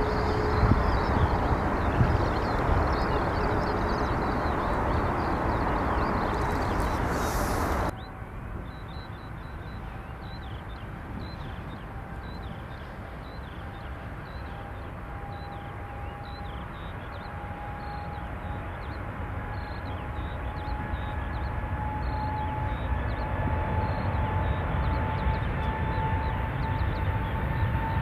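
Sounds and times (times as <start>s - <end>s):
jet engines rumbling and whining: 0.0s - 28.0s.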